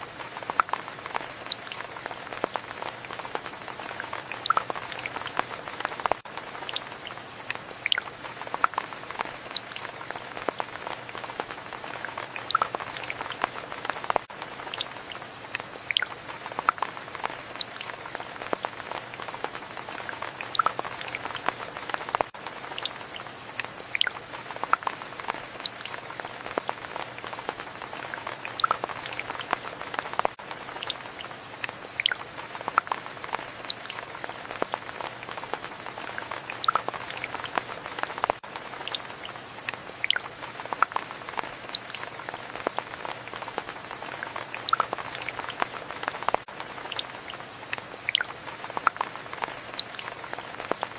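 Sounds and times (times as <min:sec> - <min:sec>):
rain hissing: 0:00.0 - 0:50.9
raindrops tapping: 0:00.0 - 0:50.9.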